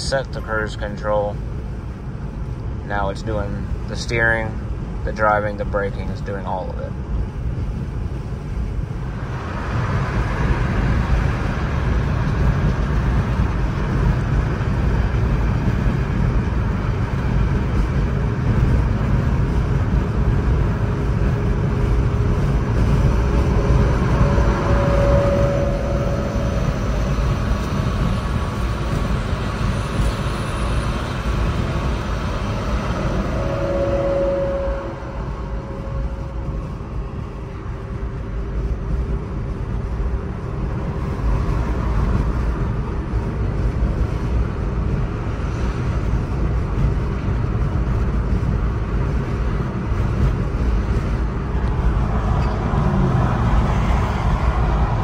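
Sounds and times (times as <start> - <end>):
road and wind noise in car: 0.0 - 55.0.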